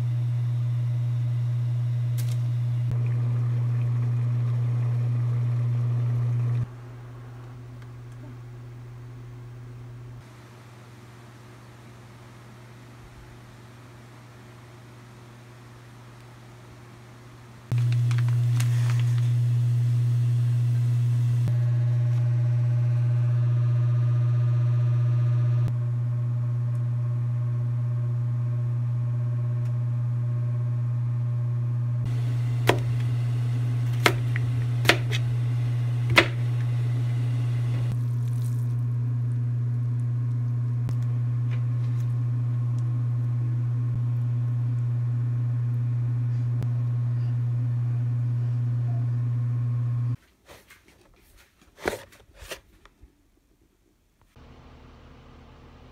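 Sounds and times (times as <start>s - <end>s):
low electrical hum: 0.0s - 50.2s.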